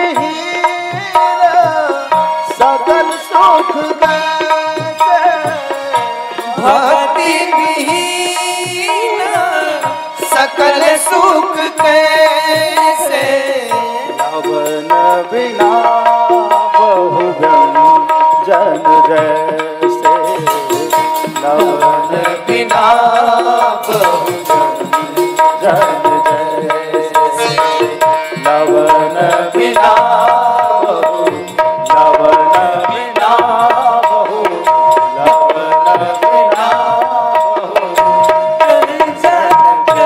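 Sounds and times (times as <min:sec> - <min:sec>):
tabla playing quick rhythm: 0:00.0 - 0:40.0.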